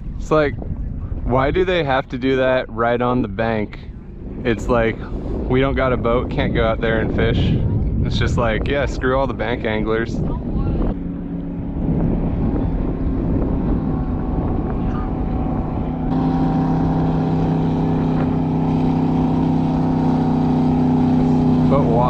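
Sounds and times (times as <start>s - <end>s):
speedboat engine running: 0.0s - 22.0s.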